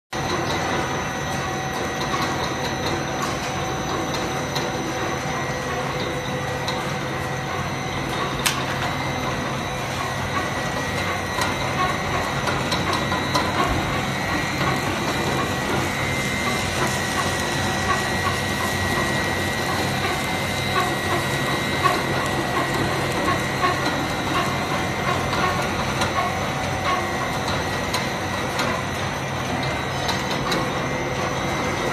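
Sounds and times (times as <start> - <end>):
high machine whine: 0.2 - 31.9
production line machinery din: 0.2 - 31.9.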